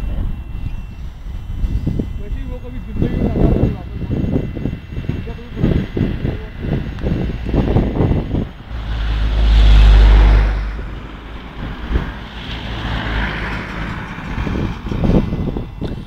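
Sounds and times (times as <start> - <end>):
loud low rumble: 0.0 - 16.0
vehicle road and wind noise: 0.0 - 16.0.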